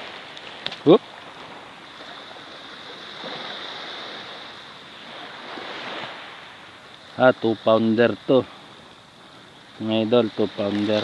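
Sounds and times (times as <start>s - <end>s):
ocean surf washing on shore: 0.0s - 11.0s.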